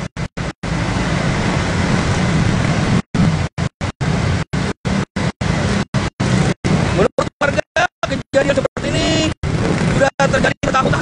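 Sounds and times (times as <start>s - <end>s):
motorbikes riding through floodwater: 0.6s - 11.0s.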